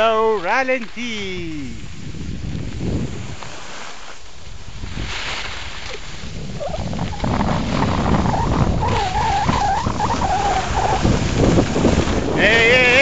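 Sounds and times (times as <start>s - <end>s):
skis scraping over snow: 0.3s - 13.0s
wind buffeting microphone: 1.2s - 3.6s, 4.4s - 13.0s.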